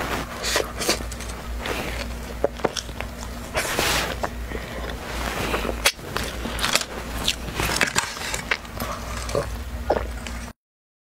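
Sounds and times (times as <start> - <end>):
person chewing food: 0.0 - 10.5
low steady hum: 0.0 - 10.6
sipping and swallowing: 0.4 - 10.5.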